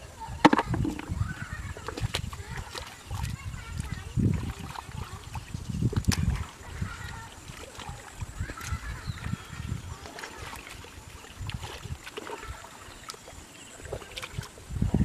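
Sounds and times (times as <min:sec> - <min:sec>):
water slaps and splashes: 0:00.0 - 0:15.0
hands squelching through mud: 0:00.6 - 0:15.0.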